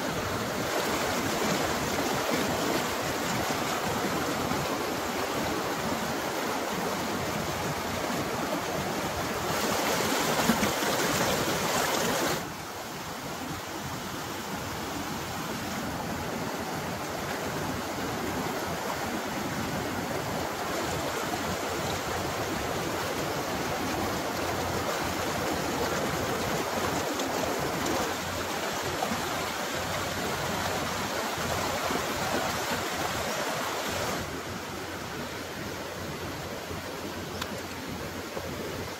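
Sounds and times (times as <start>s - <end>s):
river whitewater rushing: 0.0s - 38.9s.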